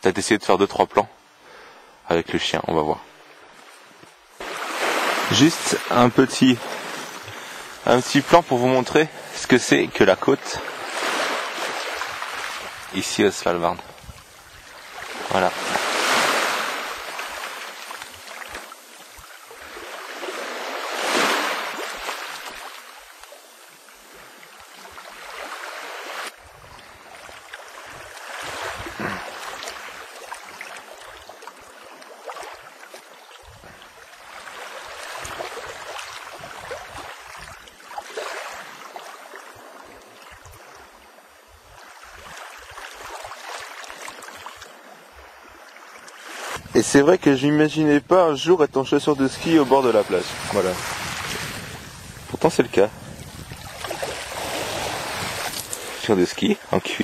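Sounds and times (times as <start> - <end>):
sea waves washing onto beach: 2.7 - 57.0.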